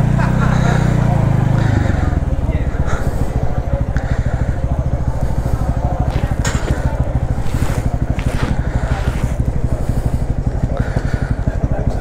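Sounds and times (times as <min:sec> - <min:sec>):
motorcycle engine at low speed: 0:00.0 - 0:12.0.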